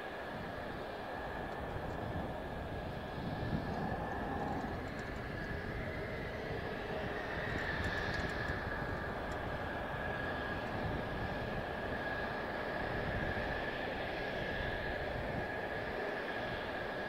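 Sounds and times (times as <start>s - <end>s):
jet engine whine and rumble: 0.0s - 17.0s.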